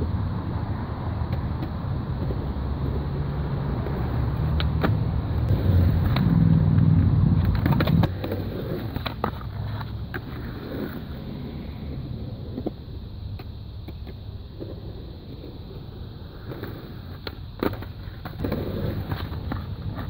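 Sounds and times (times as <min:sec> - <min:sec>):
skateboard wheels rolling on concrete: 0:00.0 - 0:20.0
skateboard clacks: 0:01.2 - 0:20.0.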